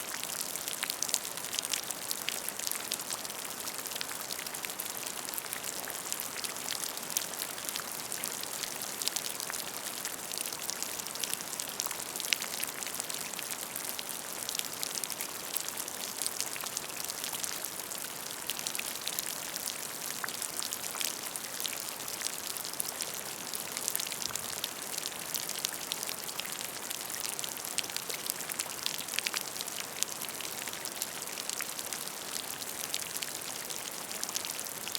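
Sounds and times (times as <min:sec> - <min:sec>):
rain falling on a puddle: 0:00.0 - 0:34.9.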